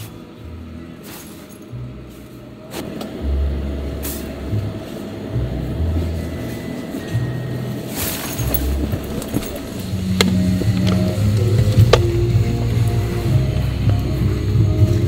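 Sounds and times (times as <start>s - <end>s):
music with deep bass line: 0.0s - 15.0s.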